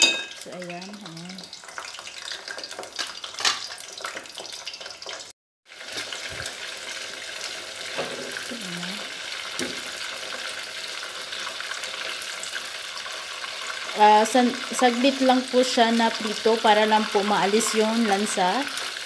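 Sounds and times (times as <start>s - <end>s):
prawns sizzling in hot oil: 0.0s - 19.0s.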